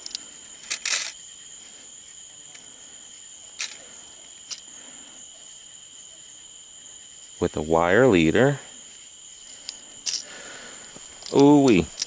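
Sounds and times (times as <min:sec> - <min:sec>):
insects calling: 0:00.0 - 0:12.0.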